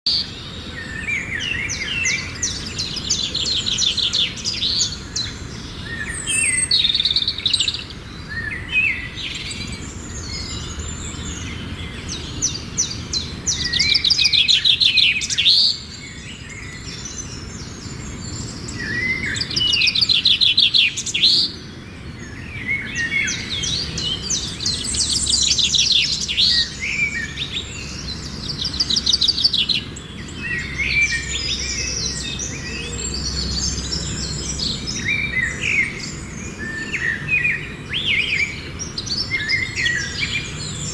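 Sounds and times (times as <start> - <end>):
songbird singing trills: 0.1 - 40.9.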